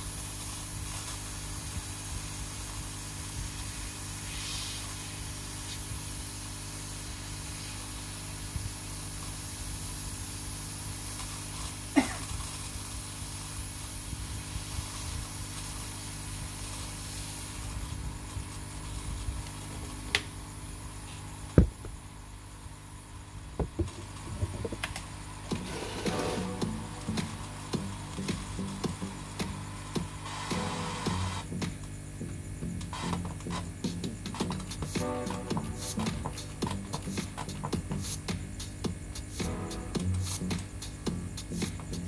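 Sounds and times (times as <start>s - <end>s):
hot air hissing from handpiece: 0.0s - 21.5s, 25.2s - 32.1s, 32.8s - 42.0s.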